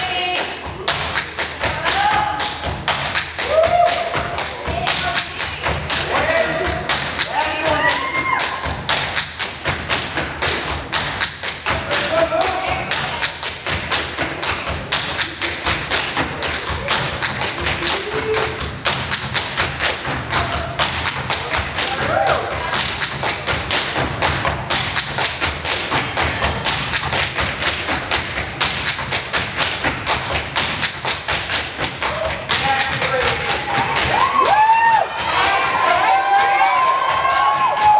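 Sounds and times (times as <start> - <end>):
fast percussive beat: 0.0 - 37.9.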